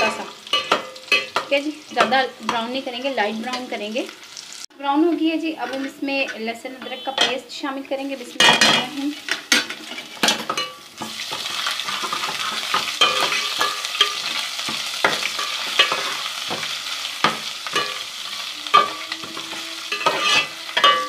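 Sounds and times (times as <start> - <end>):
paste sizzling in a pan: 0.0 - 4.7, 7.9 - 21.0.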